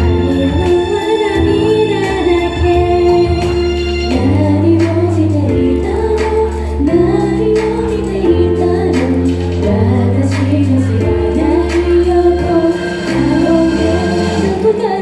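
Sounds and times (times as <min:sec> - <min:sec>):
pop song with female voices: 0:00.0 - 0:15.0.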